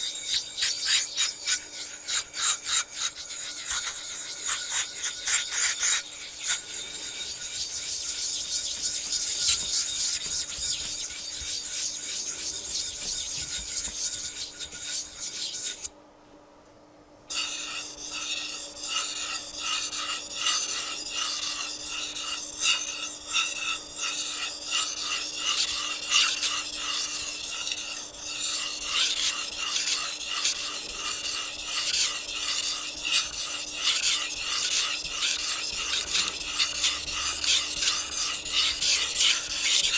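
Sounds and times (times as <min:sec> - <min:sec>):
gritty rubbing on whetstone: 0:00.0 - 0:15.9, 0:17.3 - 0:39.9
knife blade scraping on wet stone: 0:00.0 - 0:15.9, 0:17.3 - 0:39.9.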